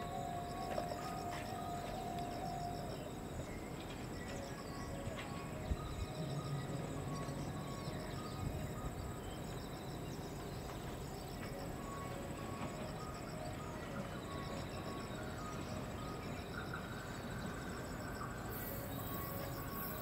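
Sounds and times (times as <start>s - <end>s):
insects chirring: 0.0s - 20.0s
low rumble of train: 0.0s - 20.0s.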